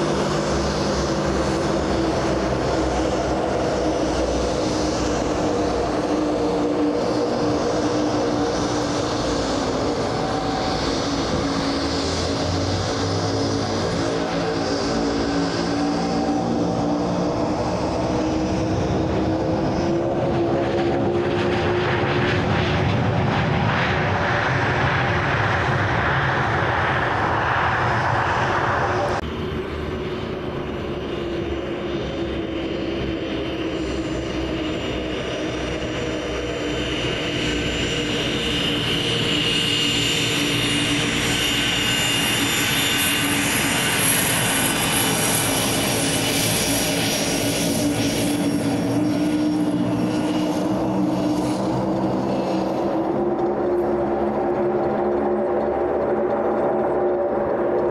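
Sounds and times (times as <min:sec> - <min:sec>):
jet engine whine: 0:00.0 - 0:57.9
jet rushing down runway: 0:00.0 - 0:57.9.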